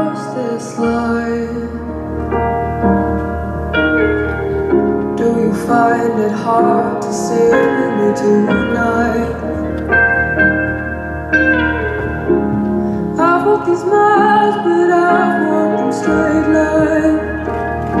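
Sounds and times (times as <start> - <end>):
slow piano song: 0.0 - 18.0.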